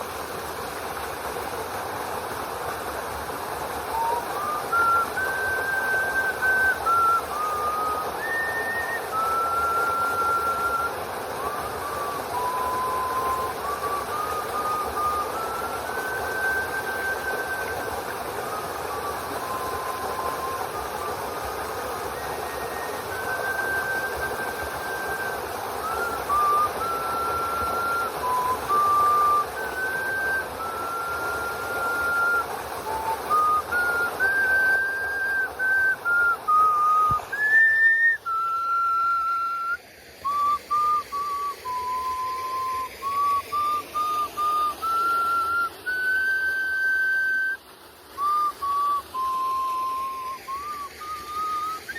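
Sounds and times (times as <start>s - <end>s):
waterfall rushing: 0.0s - 51.9s
nose flute melody: 3.7s - 51.9s.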